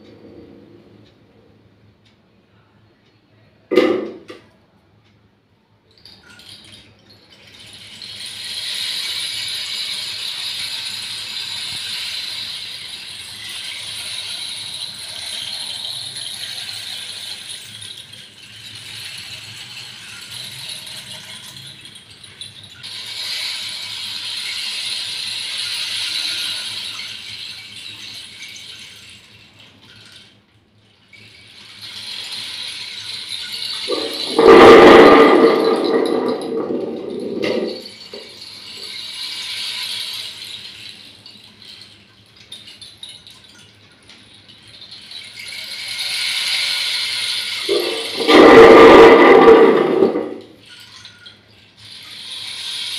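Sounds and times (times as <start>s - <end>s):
rainstick pellets cascading: 6.0s - 52.9s.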